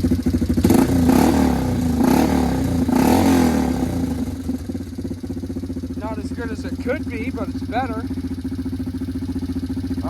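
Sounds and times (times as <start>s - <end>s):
atv engine revving and idling: 0.0s - 10.0s.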